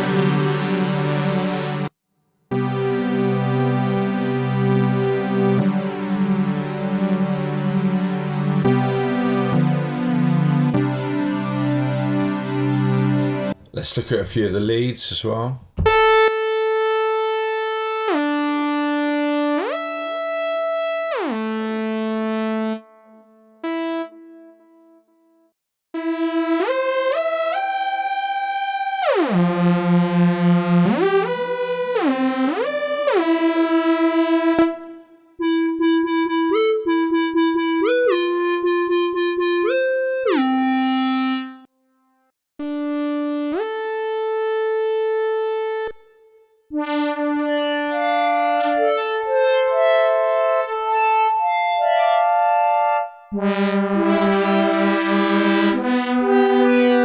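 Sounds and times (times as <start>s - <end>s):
synthesizer gliding lead melody: 0.0s - 1.9s, 2.5s - 13.6s, 15.8s - 25.0s, 26.0s - 41.7s, 46.7s - 57.0s.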